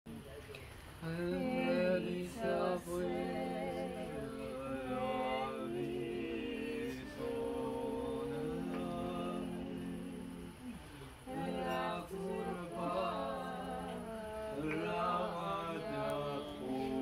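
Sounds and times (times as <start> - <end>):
voices singing in harmony: 1.0 - 17.0.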